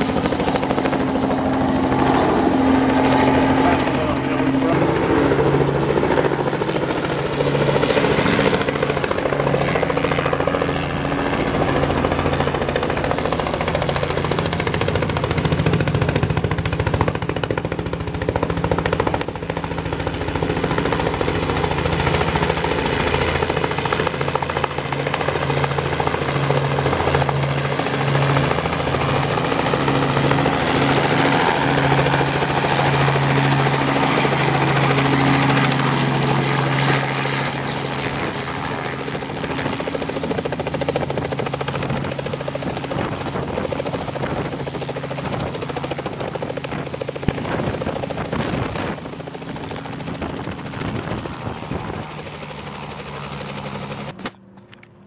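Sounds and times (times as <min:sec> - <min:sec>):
helicopter rotor beating: 0:00.0 - 0:54.9.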